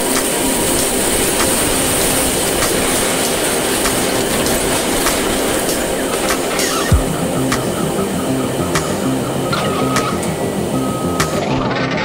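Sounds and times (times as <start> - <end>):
floodwater rushing roar: 0.0 - 11.4.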